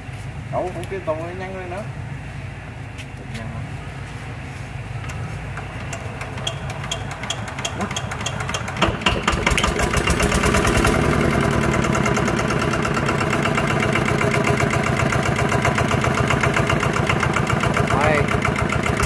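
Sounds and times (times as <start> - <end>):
diesel engine running: 3.7 - 19.0.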